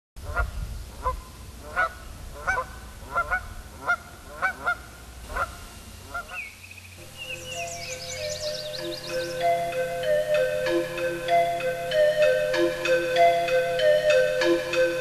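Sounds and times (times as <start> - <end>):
geese honking: 0.3 - 15.0.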